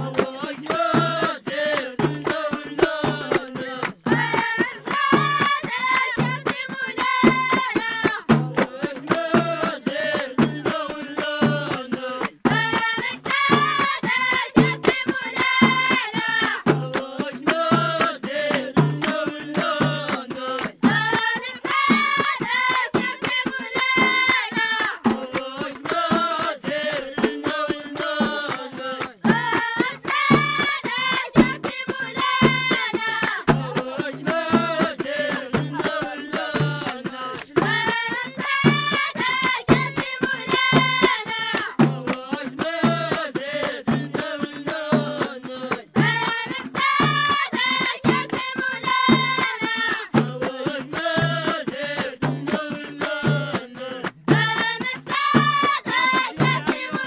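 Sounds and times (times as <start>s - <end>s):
hand percussion beat: 0.0s - 57.0s.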